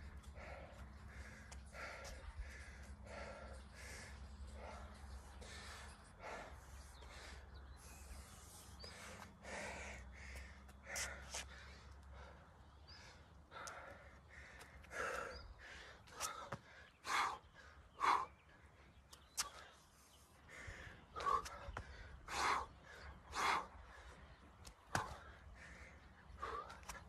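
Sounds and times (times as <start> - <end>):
man panting heavily: 0.0 - 27.0.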